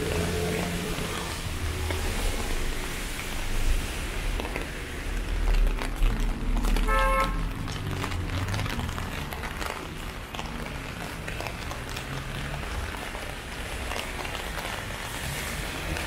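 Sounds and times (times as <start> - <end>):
low vehicle rumble: 0.0 - 16.0
rain on an umbrella: 0.0 - 16.0.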